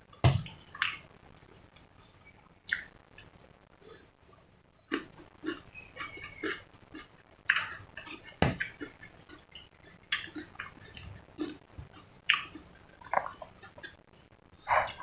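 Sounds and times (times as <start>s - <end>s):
person chewing food: 0.1s - 1.9s, 2.6s - 3.3s, 3.9s - 15.0s.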